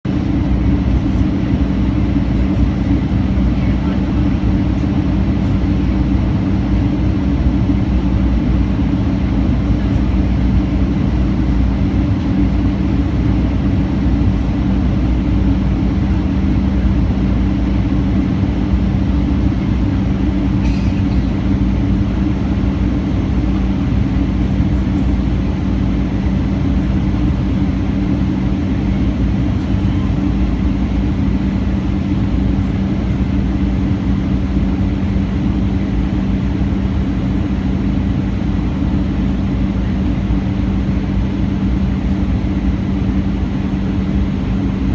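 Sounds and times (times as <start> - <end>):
vehicle engine drone: 0.1 - 44.9.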